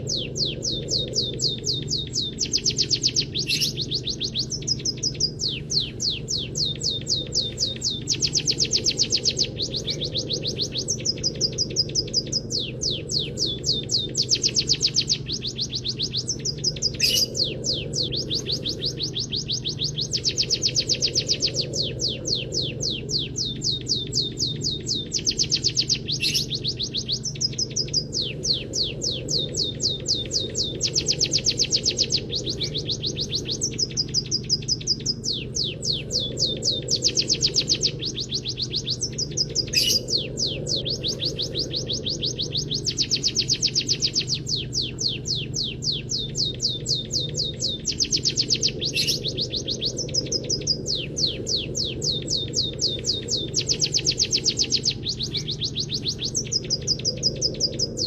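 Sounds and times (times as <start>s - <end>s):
songbird trilling: 0.0s - 58.0s
steady low hum: 0.0s - 58.0s.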